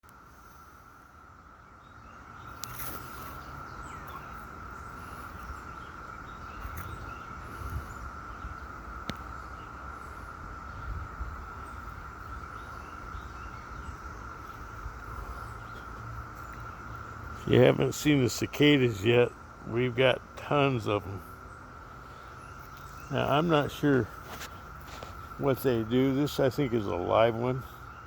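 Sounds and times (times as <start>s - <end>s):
cicadas droning: 0.0s - 28.0s.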